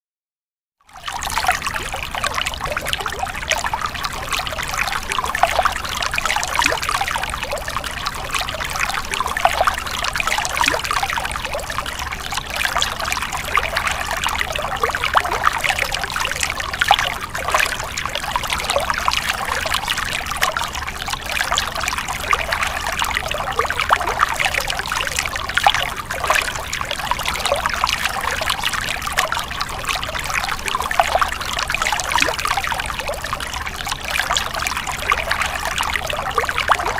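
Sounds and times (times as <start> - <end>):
stream water splashing: 0.9 - 36.9.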